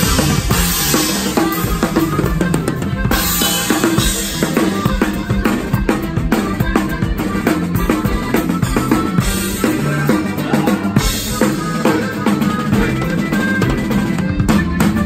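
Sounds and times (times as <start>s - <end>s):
band playing: 0.0s - 15.0s
drum kit played fast: 0.0s - 15.0s.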